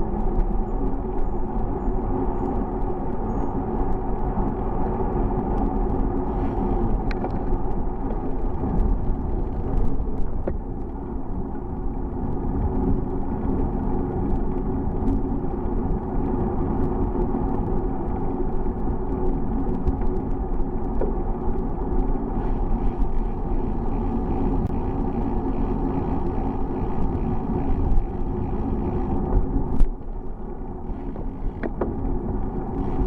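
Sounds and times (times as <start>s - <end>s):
bicycle road rumble: 0.0s - 33.0s
small clicks and rattles: 0.0s - 33.0s
wind: 0.0s - 33.0s.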